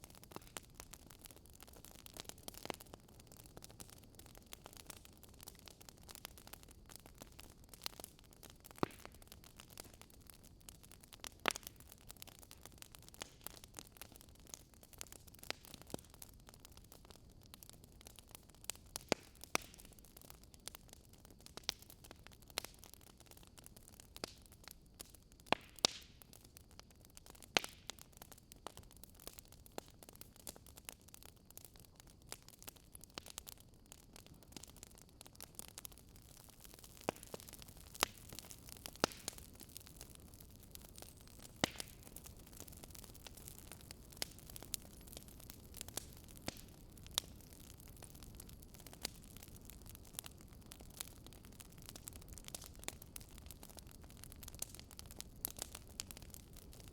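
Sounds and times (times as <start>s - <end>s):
wood fire crackling and popping: 0.0s - 56.9s.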